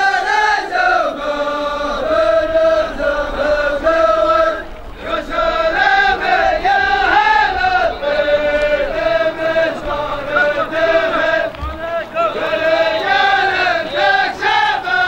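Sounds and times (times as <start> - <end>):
man chanting in long notes: 0.0 - 15.0.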